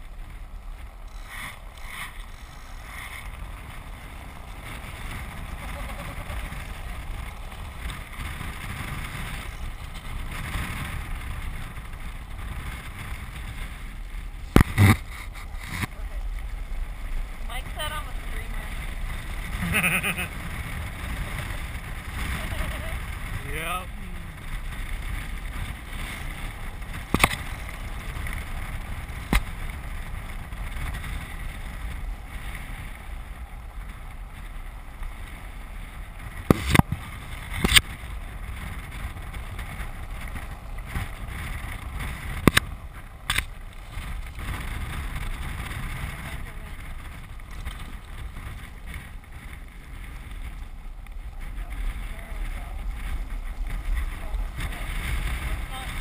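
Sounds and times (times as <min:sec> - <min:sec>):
wheels rumbling on hard ground: 0:00.0 - 0:56.0
wind on microphone: 0:00.0 - 0:56.0.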